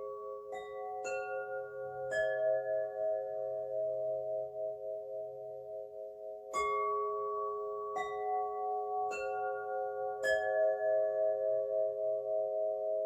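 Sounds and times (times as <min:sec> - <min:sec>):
singing bowls ringing: 0:00.0 - 0:13.0.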